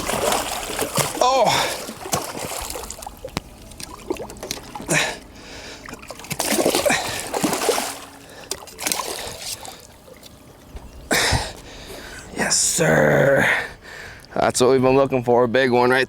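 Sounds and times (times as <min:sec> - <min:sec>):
water splashing and trickling: 0:00.0 - 0:14.2.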